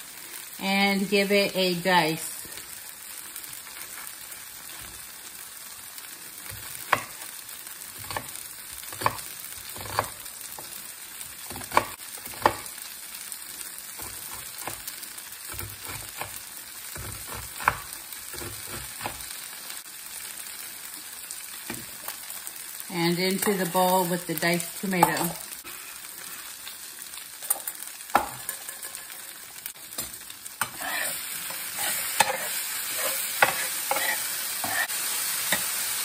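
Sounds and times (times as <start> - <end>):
vegetables sizzling in a frying pan: 0.0 - 36.0.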